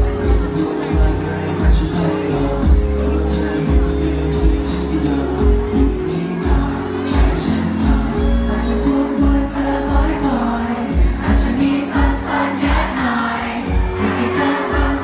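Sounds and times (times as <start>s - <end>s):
man singing into microphone: 0.0s - 15.0s
pop backing track with beat: 0.0s - 15.0s.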